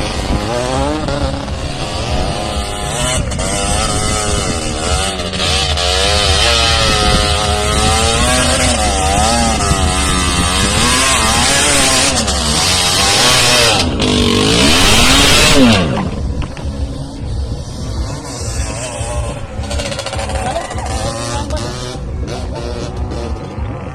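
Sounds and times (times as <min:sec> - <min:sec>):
vehicle engine revving hard: 0:00.0 - 0:23.9.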